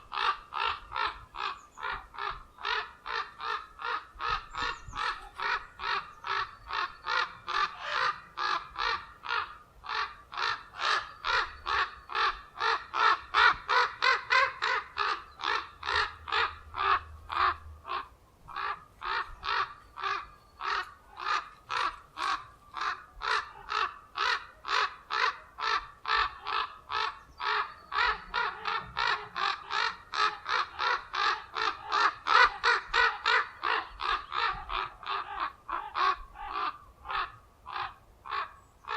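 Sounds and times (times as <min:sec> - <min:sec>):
ravens giving harsh alarm calls: 0:00.0 - 0:38.9.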